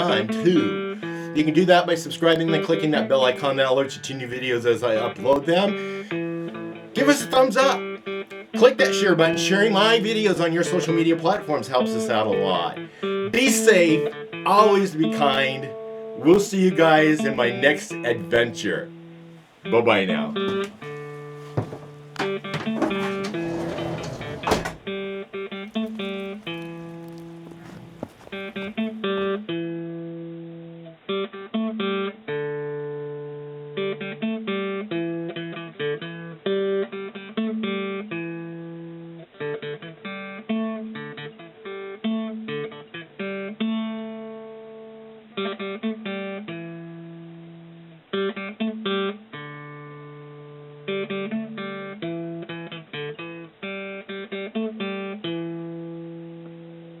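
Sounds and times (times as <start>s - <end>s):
acoustic guitar music: 0.0s - 57.0s.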